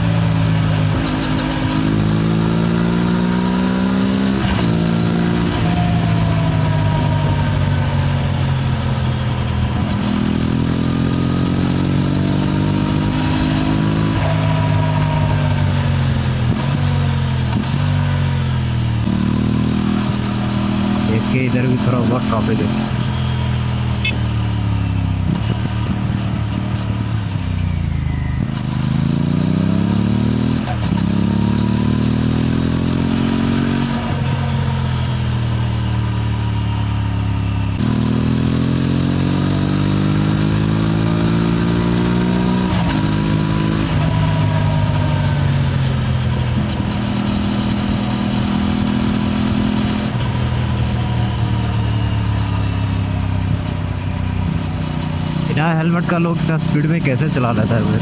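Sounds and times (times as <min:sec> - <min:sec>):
motorcycle engine revving through gears: 0:00.0 - 0:58.0.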